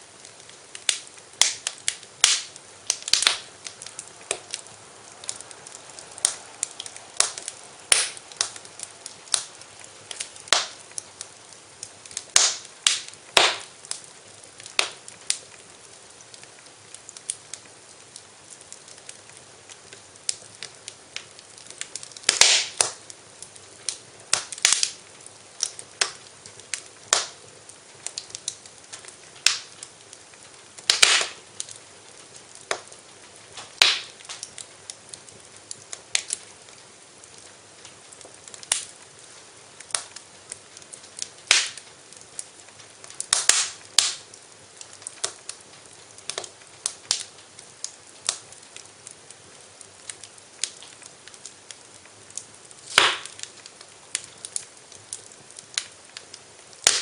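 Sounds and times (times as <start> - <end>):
soft fire hiss: 0.0 - 57.0
wood fire crackling and popping: 0.0 - 57.0.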